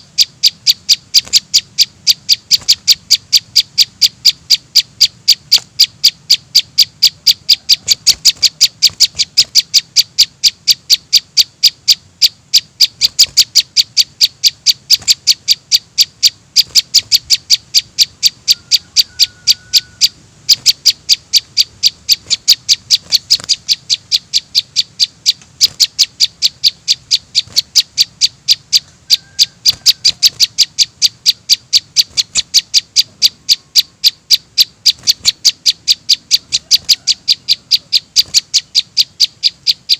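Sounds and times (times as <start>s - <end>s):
bird chicks chirping: 0.0s - 39.9s.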